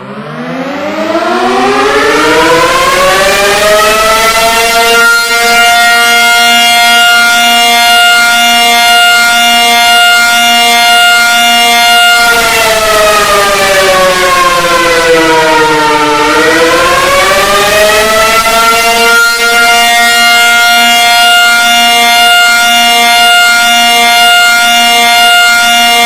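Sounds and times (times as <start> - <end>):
alarm siren: 0.0 - 26.0.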